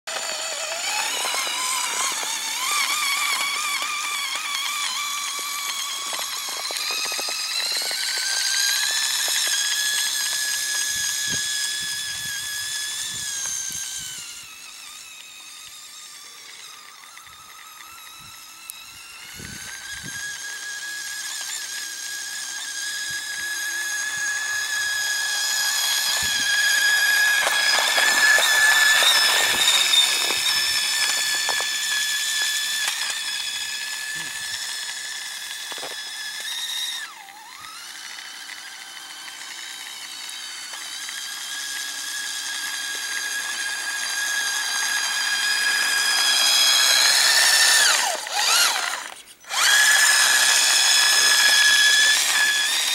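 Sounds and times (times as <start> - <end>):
toy snowmobile motor whining: 0.1 - 52.9.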